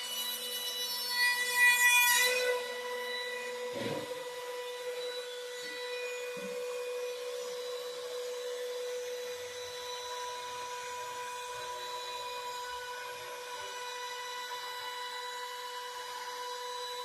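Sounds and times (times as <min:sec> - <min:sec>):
cnc machine whining: 0:00.0 - 0:17.0.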